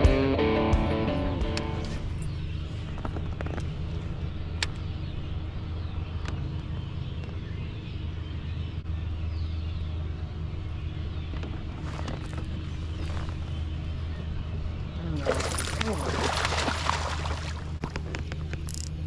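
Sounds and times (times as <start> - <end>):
low motor drone: 0.0 - 19.0.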